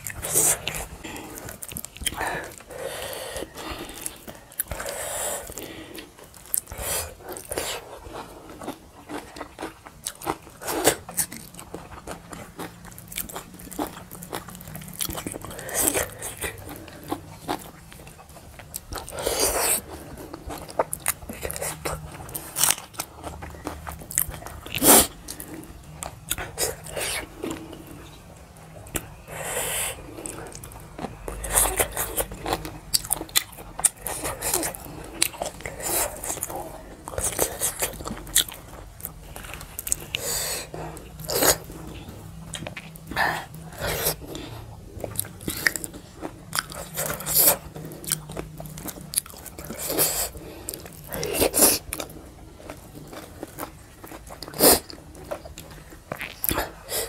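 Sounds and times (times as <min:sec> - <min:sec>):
wet chewing: 0:00.0 - 0:57.0.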